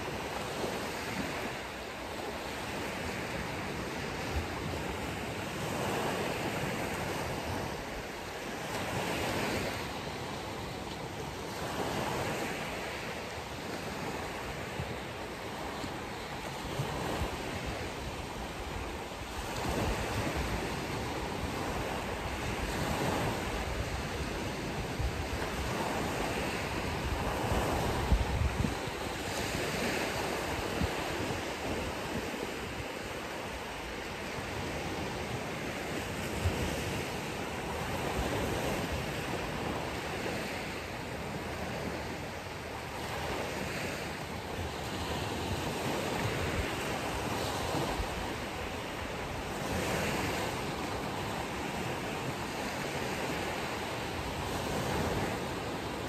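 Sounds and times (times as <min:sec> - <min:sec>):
ocean waves breaking on beach: 0:00.0 - 0:56.0
wind buffeting microphone: 0:00.0 - 0:56.0.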